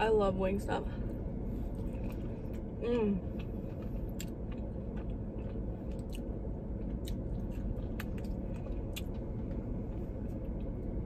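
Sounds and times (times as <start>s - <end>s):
low hum inside car: 0.0s - 11.0s
chewing chicken wing: 1.7s - 10.8s.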